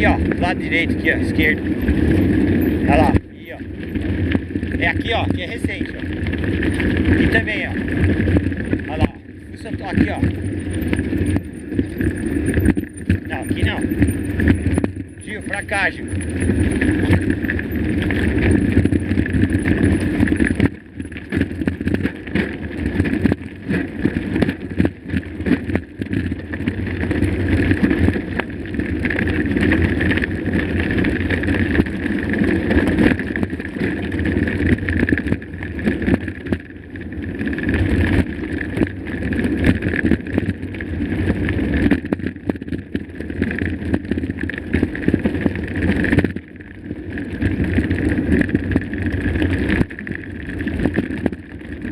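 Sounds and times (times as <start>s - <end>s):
bike rattling: 0.0s - 51.9s
bike tyres on rocky trail: 0.0s - 51.9s.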